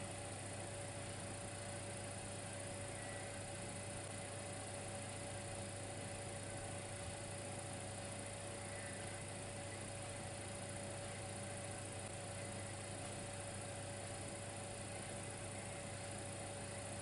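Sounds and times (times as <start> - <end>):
electric fireplace humming: 0.0 - 17.0.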